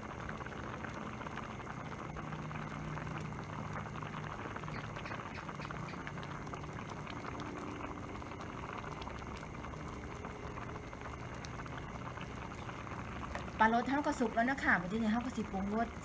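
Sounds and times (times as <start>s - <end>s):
broth boiling in a pot: 0.0s - 16.0s.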